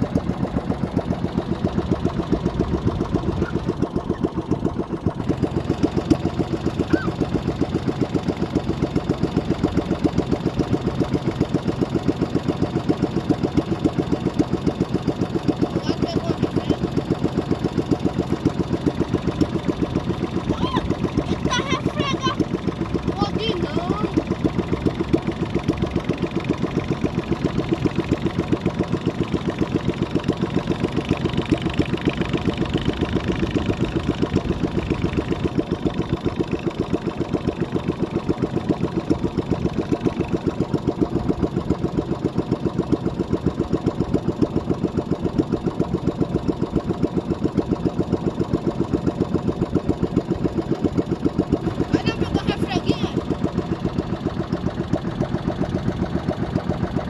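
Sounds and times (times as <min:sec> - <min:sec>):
small boat motor running: 0:00.0 - 0:57.0.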